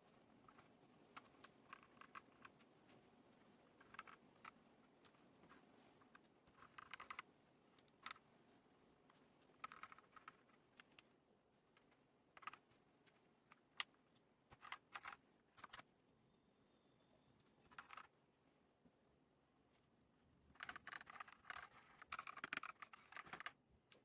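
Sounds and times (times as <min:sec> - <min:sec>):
faint mechanical keyboard typing: 0:00.0 - 0:08.3, 0:09.0 - 0:15.9, 0:17.0 - 0:18.2, 0:20.5 - 0:24.0.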